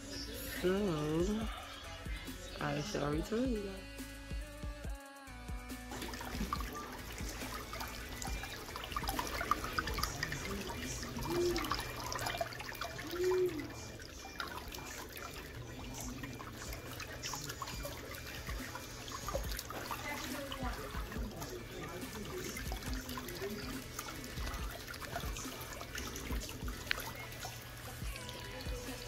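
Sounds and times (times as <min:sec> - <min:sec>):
water running from faucet: 0:00.0 - 0:04.3, 0:05.5 - 0:29.0.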